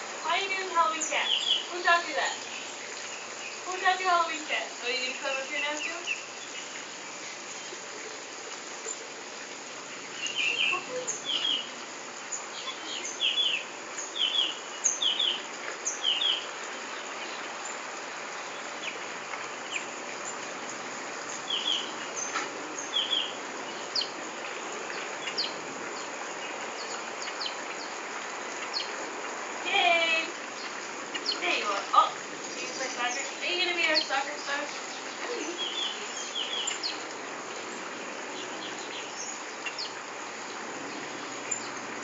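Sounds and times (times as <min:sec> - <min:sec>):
birds chirping: 0:00.0 - 0:42.0
steady background hiss: 0:00.0 - 0:42.0.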